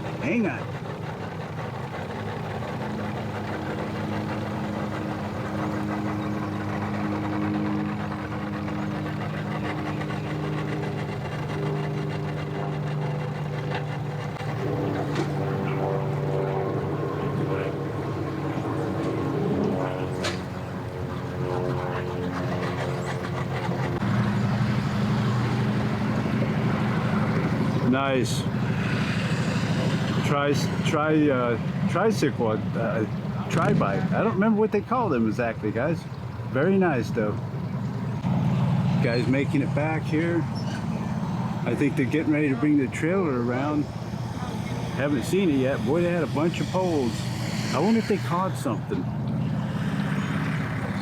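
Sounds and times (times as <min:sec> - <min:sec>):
engine running at low speed: 0:00.0 - 0:51.0.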